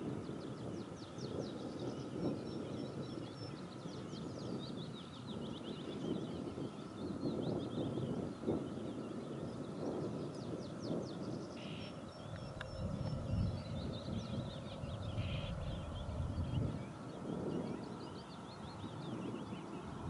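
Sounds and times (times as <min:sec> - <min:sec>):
low uneven rumble: 0:00.0 - 0:20.0
birds chirping and trilling: 0:00.2 - 0:20.0.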